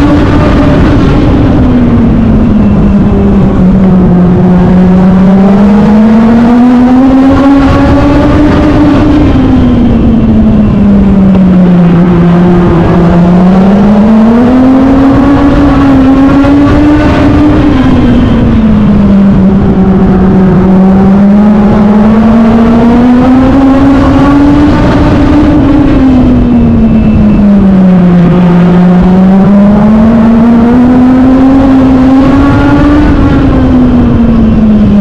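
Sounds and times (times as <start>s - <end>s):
race car engine at racing speed: 0.0s - 35.0s.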